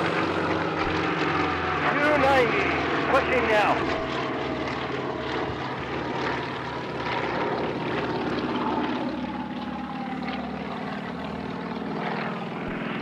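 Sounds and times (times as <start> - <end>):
propeller whine: 0.0 - 13.0
radial engines droning overhead: 0.0 - 13.0.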